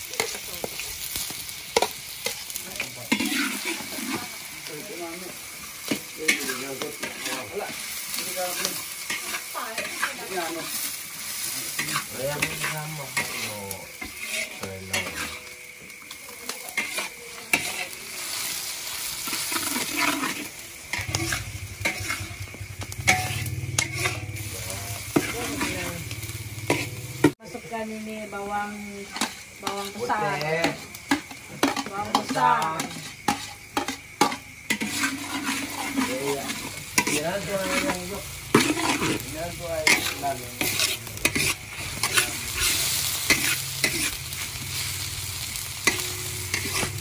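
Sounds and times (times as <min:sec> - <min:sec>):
food sizzling: 0:00.0 - 0:47.0
metal spatula scraping a wok: 0:00.1 - 0:27.4, 0:29.0 - 0:47.0.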